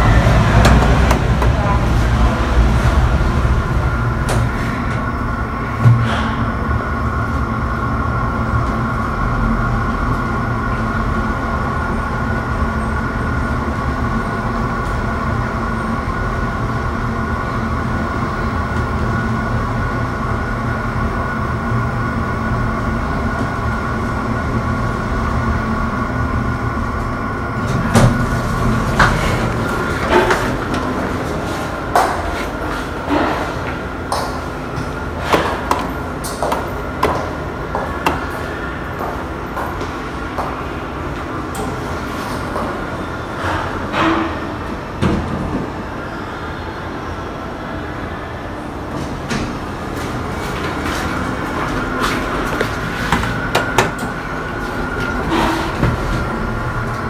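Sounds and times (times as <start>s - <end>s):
lift humming: 0.0s - 57.0s.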